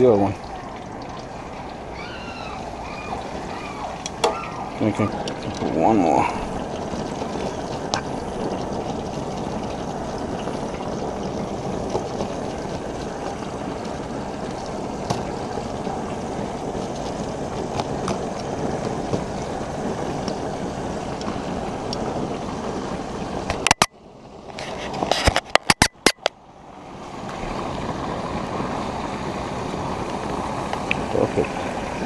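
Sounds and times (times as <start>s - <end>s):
fish deep-frying in oil: 0.0s - 32.0s.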